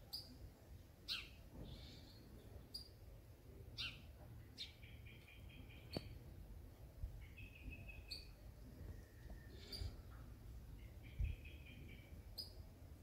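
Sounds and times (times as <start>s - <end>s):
sparrows chirping: 0.0s - 0.4s, 1.1s - 3.1s, 3.7s - 6.4s, 7.0s - 12.8s.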